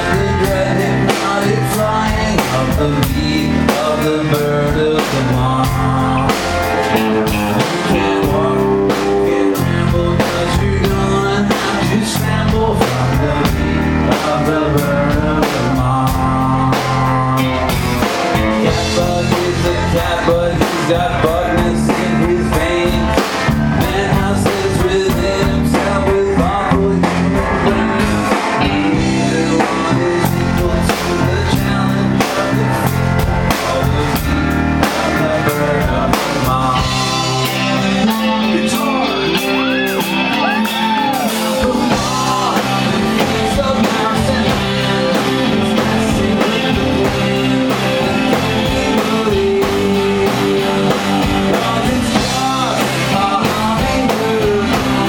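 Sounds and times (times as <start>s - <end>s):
drum kit beating: 0.0s - 55.0s
rock band playing live: 0.0s - 55.0s.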